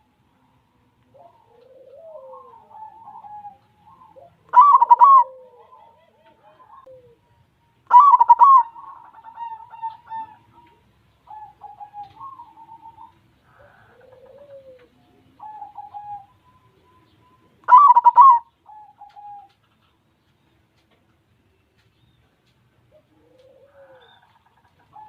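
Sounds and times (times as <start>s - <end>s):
dove cooing: 0.0s - 20.0s, 22.8s - 25.0s.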